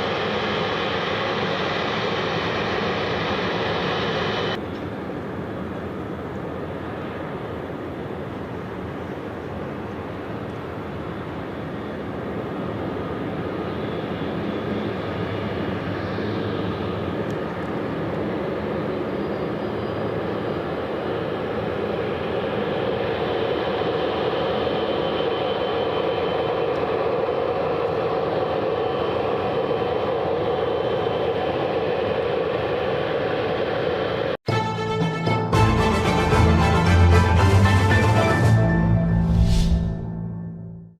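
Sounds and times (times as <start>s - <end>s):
jet engines running: 0.0s - 34.4s.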